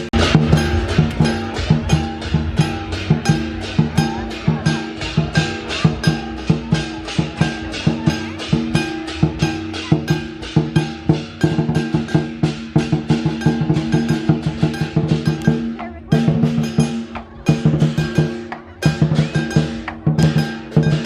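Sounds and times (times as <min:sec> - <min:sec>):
music with quick percussive beat: 0:00.0 - 0:21.0.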